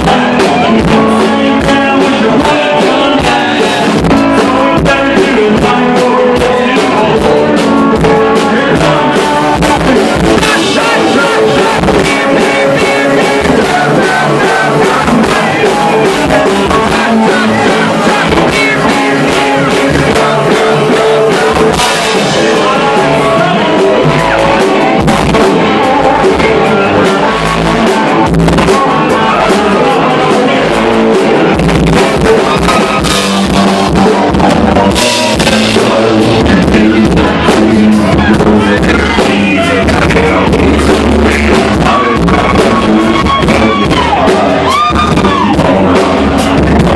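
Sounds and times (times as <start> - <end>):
drum kit: 0.0 - 46.9
electric guitar: 0.0 - 46.9
person singing: 0.0 - 46.9.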